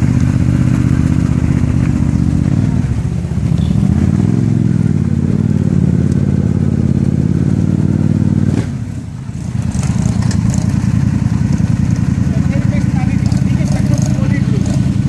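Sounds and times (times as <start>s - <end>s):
atv engine running and idling: 0.0s - 15.0s.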